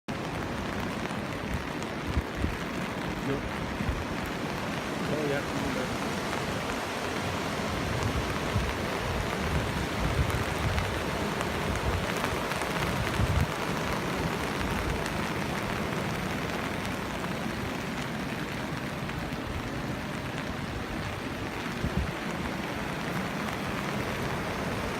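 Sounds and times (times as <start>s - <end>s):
heavy rain hissing: 0.1s - 24.9s.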